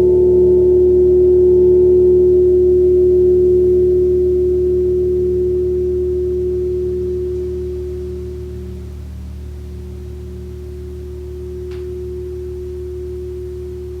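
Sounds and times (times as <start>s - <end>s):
gong ringing tone: 0.0s - 14.0s.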